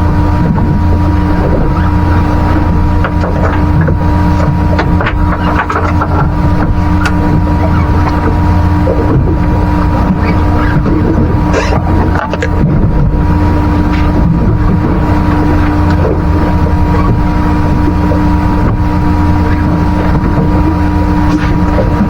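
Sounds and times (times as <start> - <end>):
boat motor humming: 0.0 - 22.0
wind buffeting microphone: 0.0 - 22.0.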